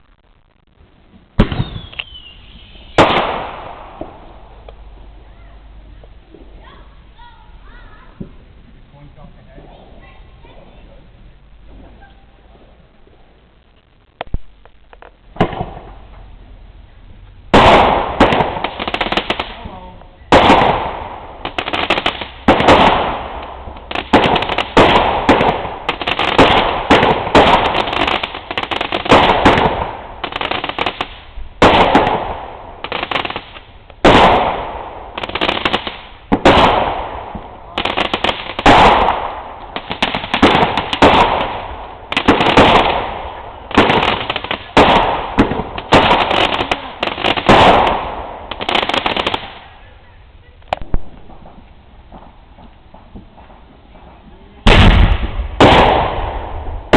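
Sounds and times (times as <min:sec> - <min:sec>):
fireworks banging: 0:00.0 - 0:56.9.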